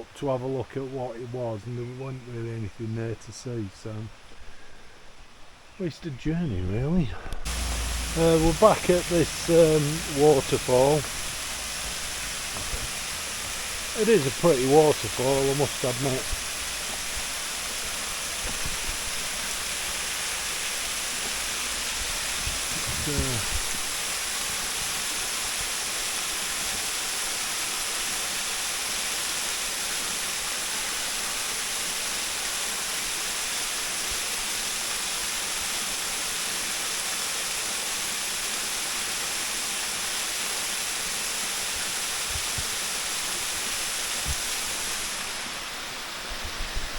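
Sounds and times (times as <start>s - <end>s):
waterfall rushing: 7.4s - 46.9s.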